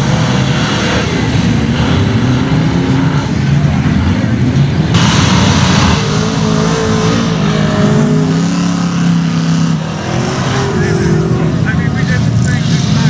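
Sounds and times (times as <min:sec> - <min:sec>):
loud rushing noise: 0:00.0 - 0:13.0
truck engine revving: 0:00.0 - 0:13.0.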